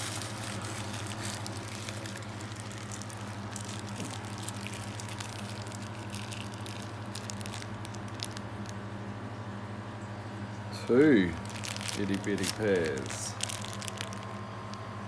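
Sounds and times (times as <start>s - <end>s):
water squishing in bag: 0.0s - 8.8s, 11.1s - 14.9s
plastic bags crackling: 0.0s - 8.9s, 11.0s - 15.0s
steady low hum: 0.0s - 15.0s.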